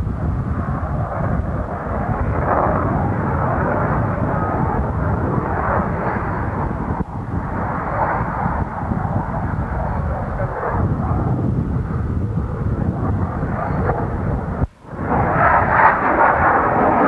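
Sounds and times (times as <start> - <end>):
jet engine rumble with hiss: 0.0 - 17.0.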